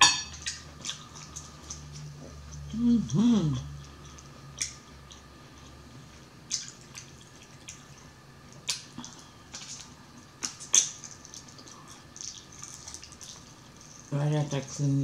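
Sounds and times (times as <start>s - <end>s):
wet chewing: 0.3s - 14.7s.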